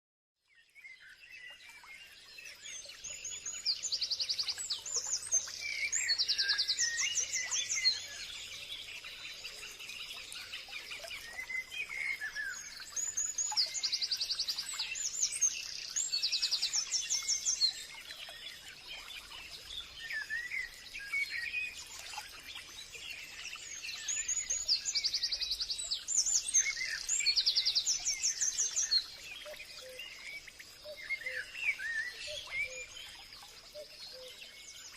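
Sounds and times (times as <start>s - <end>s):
forest birds singing: 0.4s - 34.9s.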